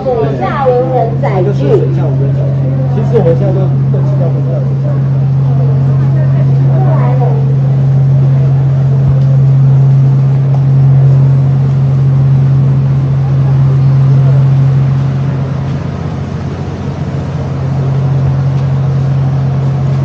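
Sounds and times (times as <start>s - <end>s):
ship machinery humming: 0.0s - 20.0s.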